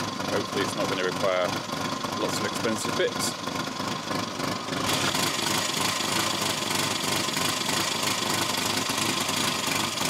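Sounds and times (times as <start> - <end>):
car engine idling: 0.0 - 10.0
exhaust leak pulsing: 0.0 - 10.0.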